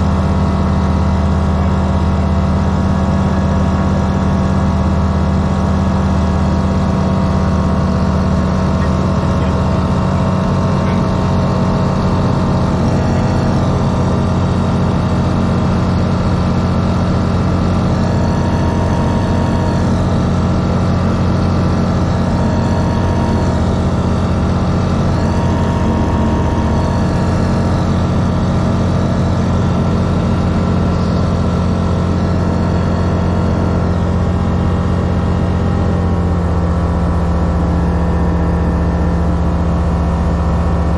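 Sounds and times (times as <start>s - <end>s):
aircraft engine and propeller droning: 0.0s - 40.9s.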